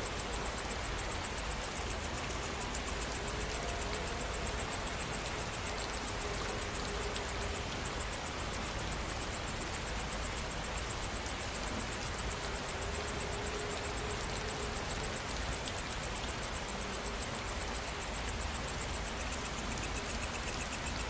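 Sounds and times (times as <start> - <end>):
insects chirping: 0.0 - 21.0
steady rainfall: 0.0 - 21.0.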